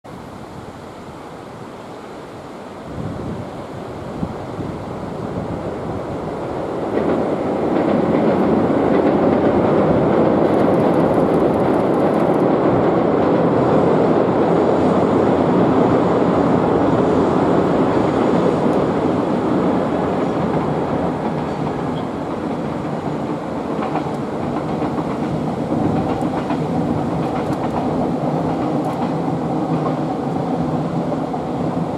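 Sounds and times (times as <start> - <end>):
train rumbling over bridge: 0.2 - 31.9.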